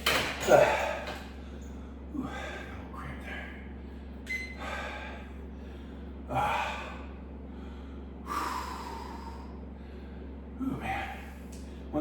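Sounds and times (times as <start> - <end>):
steady low hum: 0.0 - 12.0
man breathing hard: 0.6 - 11.9.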